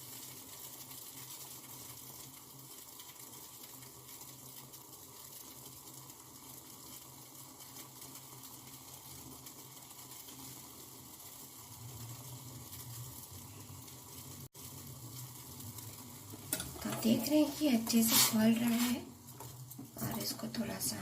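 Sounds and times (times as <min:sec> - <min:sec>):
pot simmering with bubbles: 0:00.0 - 0:21.0.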